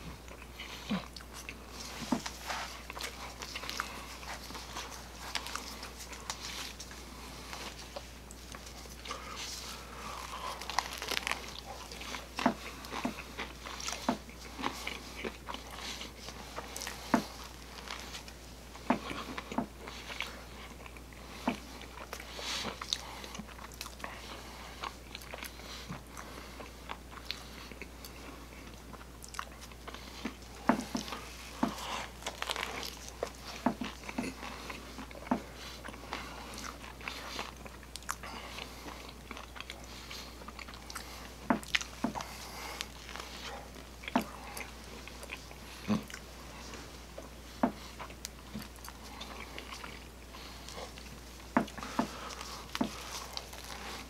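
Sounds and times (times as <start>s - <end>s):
crunchy pizza bites: 0.2s - 54.0s.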